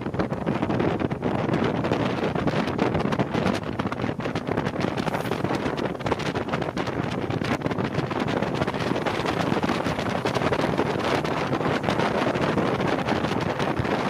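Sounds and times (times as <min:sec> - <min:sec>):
water beneath hull: 0:00.0 - 0:14.0
wind buffeting microphone: 0:00.0 - 0:14.0.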